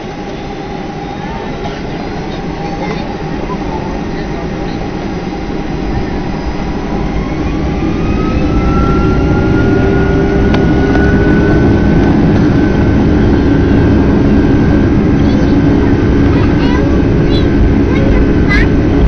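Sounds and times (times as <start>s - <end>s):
jet engines spooling up: 0.0s - 19.0s
low rumble: 0.0s - 19.0s.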